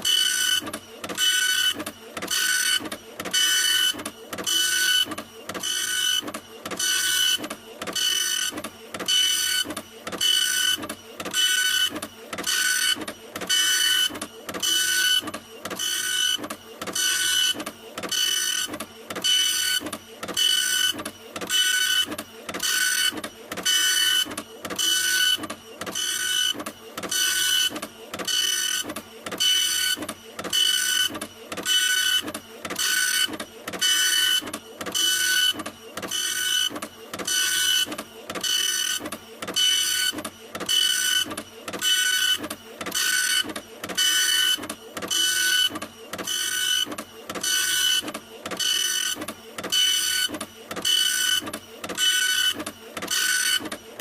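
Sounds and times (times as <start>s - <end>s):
printer printing: 0.0s - 54.0s.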